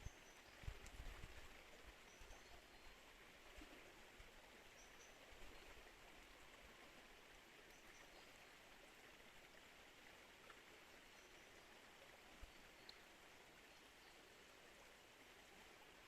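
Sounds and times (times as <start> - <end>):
flowing river water: 0.0 - 16.0.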